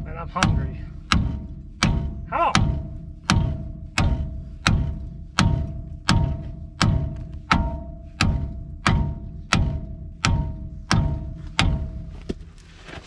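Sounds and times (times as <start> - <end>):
hammer blows on metal: 0.1 - 12.2.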